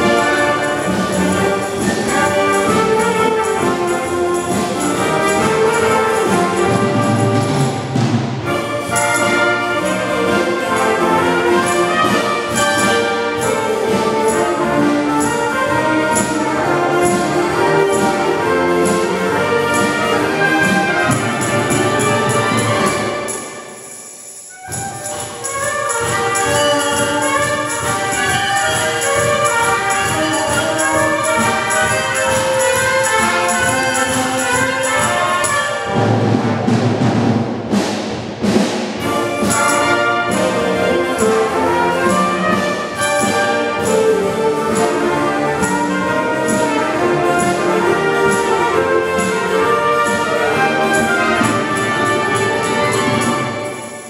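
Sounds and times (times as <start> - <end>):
trumpets: 0.0 - 37.8, 39.0 - 54.0
wind band playing blues: 0.0 - 54.0.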